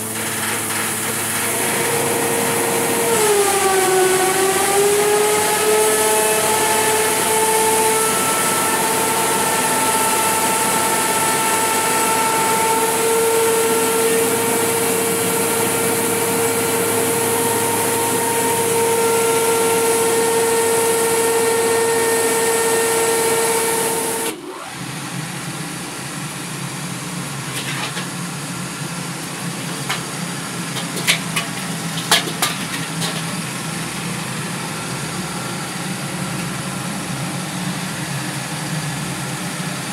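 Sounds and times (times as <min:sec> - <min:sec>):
low mill machine hum: 0:00.0 - 0:39.9
rice sheller machine whining: 0:00.0 - 0:39.9.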